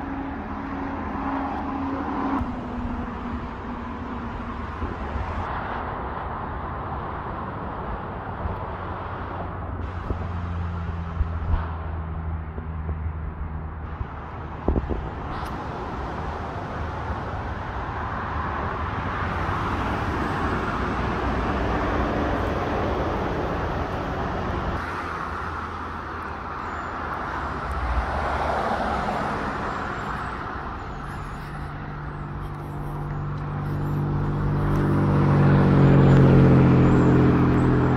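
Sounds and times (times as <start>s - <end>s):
motor traffic: 0.0s - 37.9s
vehicle engine hum: 0.0s - 37.9s.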